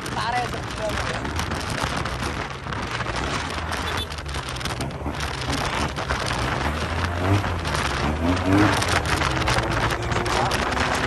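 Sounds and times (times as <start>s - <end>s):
wind rushing over microphone: 0.0s - 11.0s
scooter engine humming: 1.3s - 11.0s.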